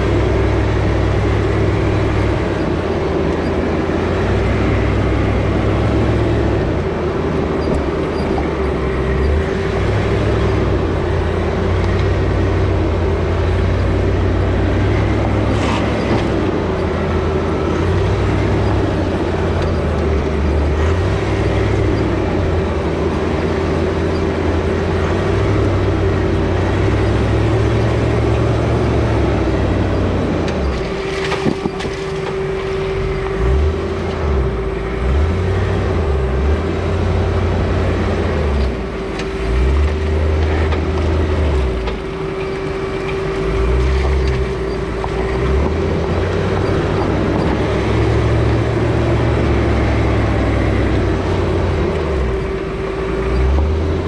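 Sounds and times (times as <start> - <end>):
car engine running low: 0.0 - 54.0
steady whine: 0.0 - 54.0
tyres on dirt and stones: 0.0 - 54.0.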